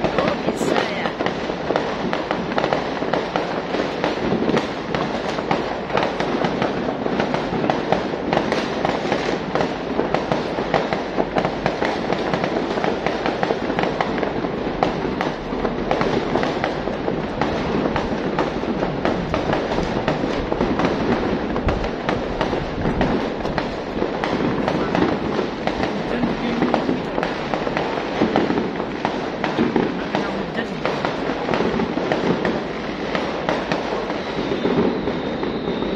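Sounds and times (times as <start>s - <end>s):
fireworks crackling and banging: 0.0s - 35.9s.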